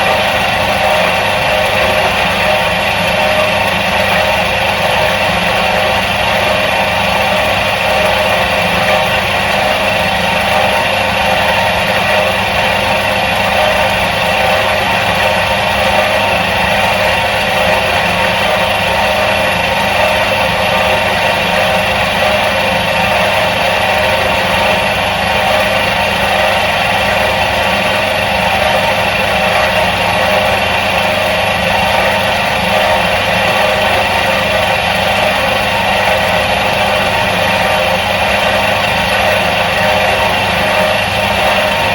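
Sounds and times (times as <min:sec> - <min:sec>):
washing machine motor drone: 0:00.0 - 0:41.9.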